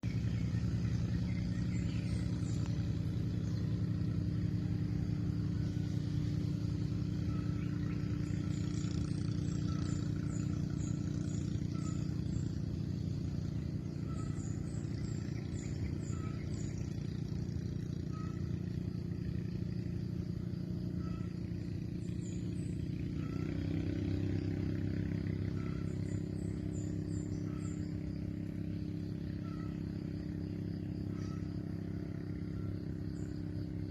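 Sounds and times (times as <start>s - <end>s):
engine humming: 0.0s - 33.9s.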